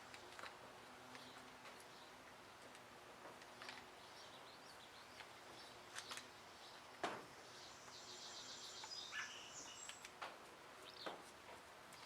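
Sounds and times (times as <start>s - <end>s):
songbirds chirping and trilling: 1.0s - 12.0s.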